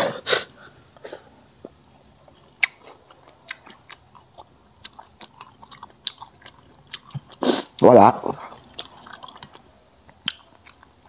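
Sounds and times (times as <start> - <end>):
man chewing crispy food: 1.7 - 11.0.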